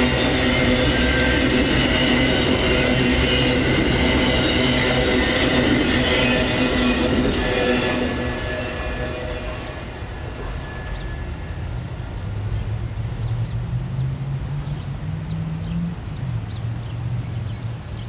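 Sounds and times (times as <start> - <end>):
train on rails: 0.0 - 18.0.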